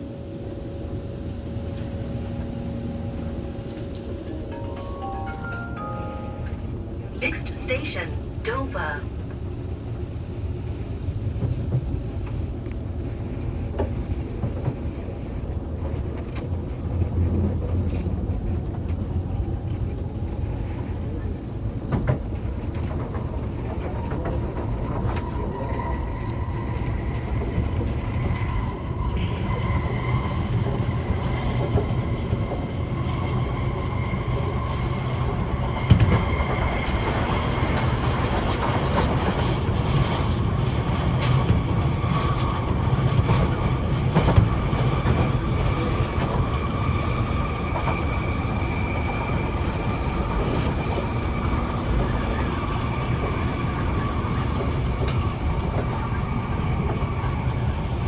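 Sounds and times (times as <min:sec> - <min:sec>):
train wheels rumbling on rail: 0:07.1 - 0:58.0.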